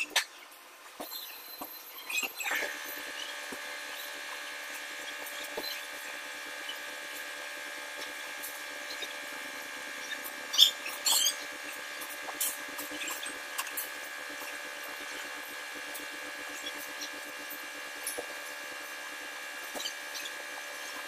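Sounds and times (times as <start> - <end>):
small power tool running: 2.3 - 21.0.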